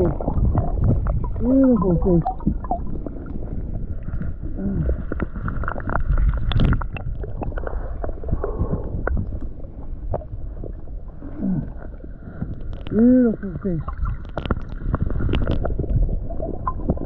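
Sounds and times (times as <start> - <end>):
muffled underwater water sloshing: 0.0 - 17.0.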